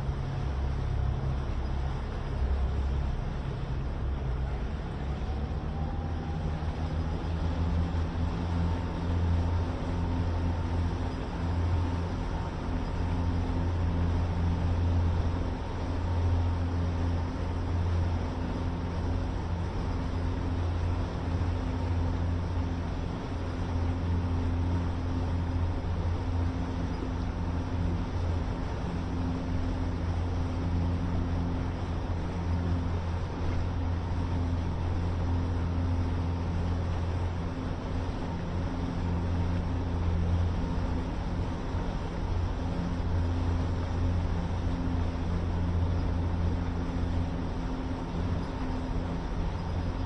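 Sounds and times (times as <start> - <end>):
boat engines droning: 0.0 - 50.0
wind and water rushing: 0.0 - 50.0.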